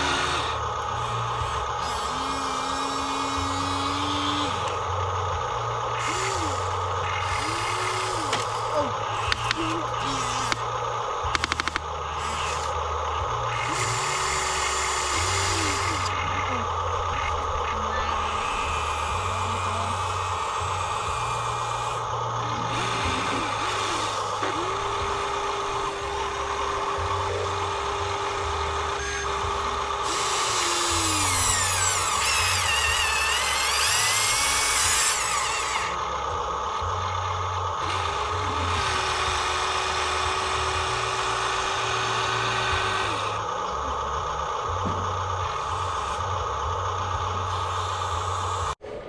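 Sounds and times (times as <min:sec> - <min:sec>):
small electric motors whining: 0:00.0 - 0:48.8.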